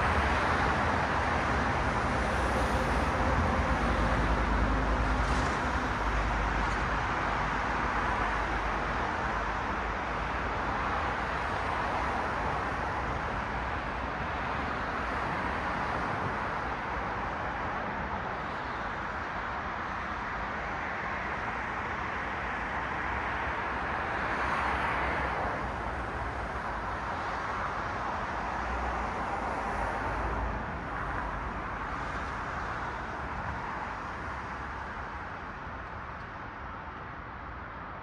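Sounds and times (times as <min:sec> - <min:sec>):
cars passing on street: 0:00.0 - 0:38.0.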